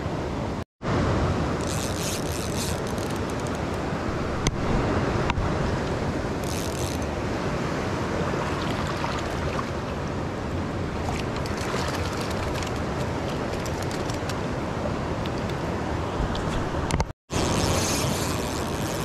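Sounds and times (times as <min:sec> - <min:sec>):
flowing water rushing: 0:00.9 - 0:19.0.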